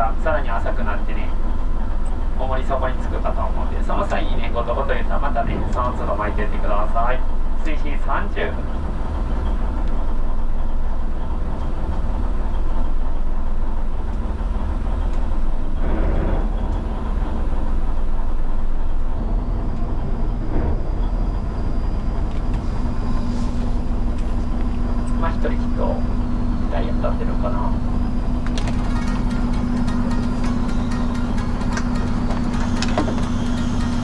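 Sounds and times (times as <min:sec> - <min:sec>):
boat engine rumbling: 0:00.0 - 0:34.0
steady hum: 0:00.0 - 0:34.0.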